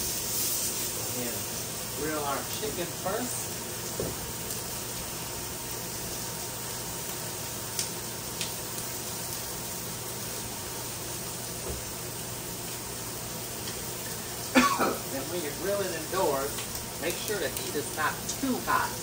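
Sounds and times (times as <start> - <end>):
chicken sizzling on grill pan: 0.0 - 19.0.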